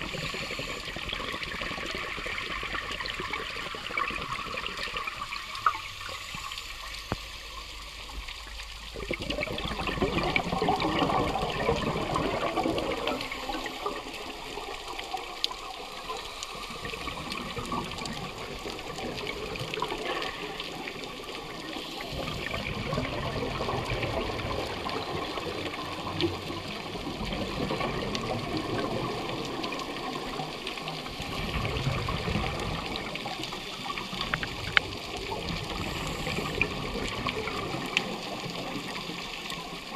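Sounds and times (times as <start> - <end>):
exhaled bubbles streaming: 0.0 - 39.9
underwater rushing and gurgling: 0.0 - 39.9.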